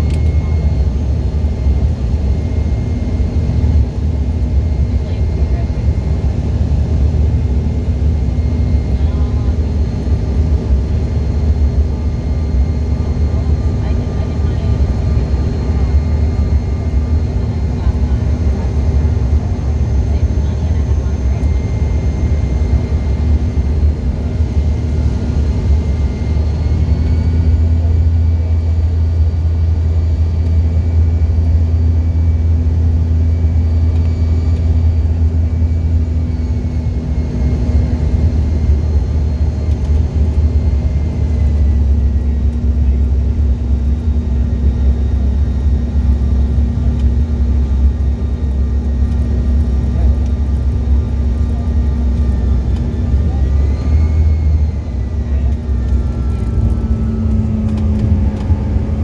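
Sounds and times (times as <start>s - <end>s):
engine and airflow drone: 0.0s - 59.0s.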